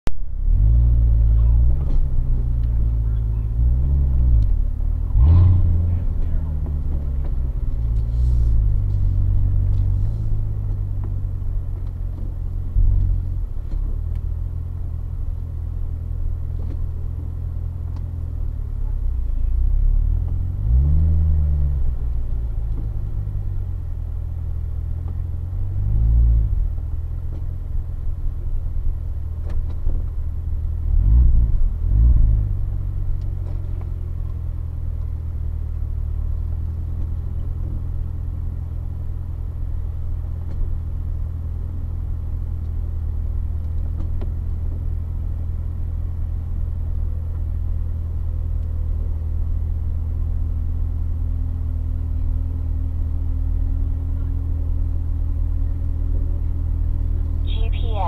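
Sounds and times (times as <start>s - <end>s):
car engine rumbling at low revs: 0.0s - 58.0s.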